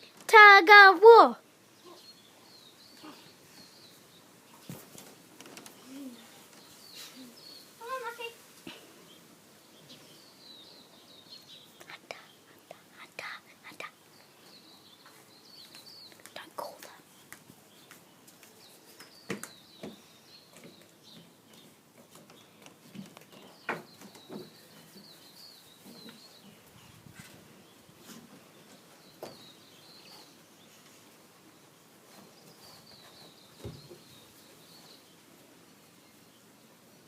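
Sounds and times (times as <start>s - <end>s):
faint birds chirping: 0.0s - 37.0s.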